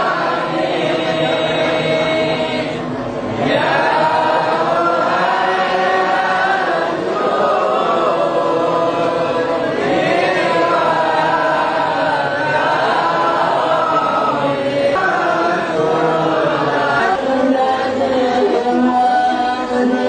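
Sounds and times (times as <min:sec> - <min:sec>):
crowd chanting in unison: 0:00.0 - 0:20.0.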